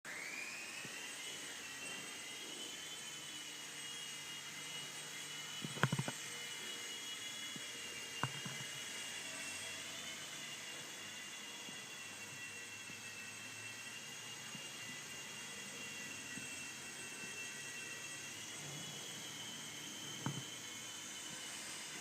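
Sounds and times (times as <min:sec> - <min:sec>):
toy helicopter motor whine: 0:00.1 - 0:22.0.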